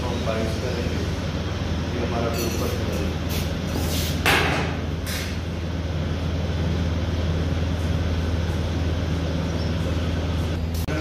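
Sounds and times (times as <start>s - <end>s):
electrical machine hum: 0.0s - 11.0s.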